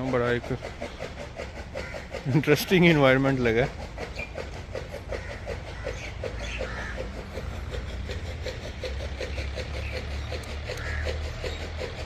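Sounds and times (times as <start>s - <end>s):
engine running with knocking: 0.0s - 12.0s.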